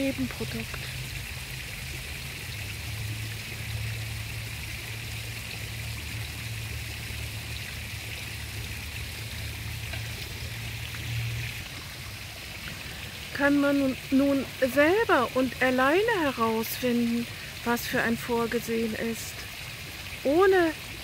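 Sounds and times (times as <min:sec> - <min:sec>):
low even hum: 0:00.0 - 0:21.0.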